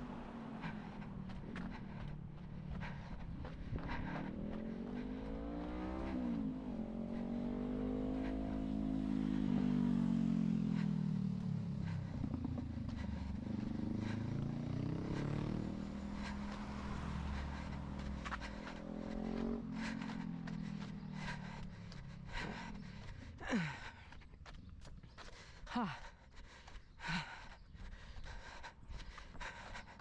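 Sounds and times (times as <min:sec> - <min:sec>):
vehicles driving past: 0:00.0 - 0:25.2
footsteps on sidewalk: 0:00.0 - 0:30.0.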